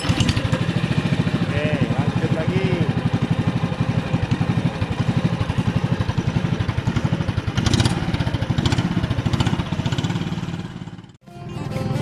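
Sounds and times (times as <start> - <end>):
motorboat engine puttering: 0.0 - 11.2.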